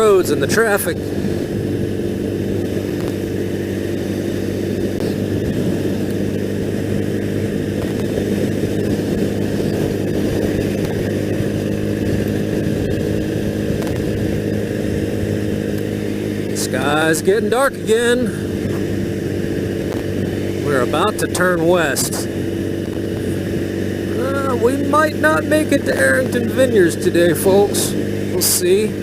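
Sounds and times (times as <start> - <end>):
motorcycle engine cruising: 0.0 - 29.0
wind and road noise: 0.0 - 29.0.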